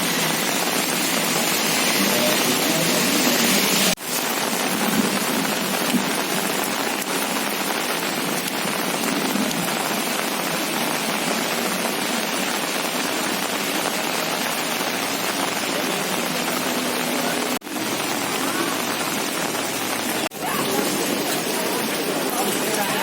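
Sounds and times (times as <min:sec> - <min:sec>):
rain on hard surfaces: 0:00.0 - 0:23.0.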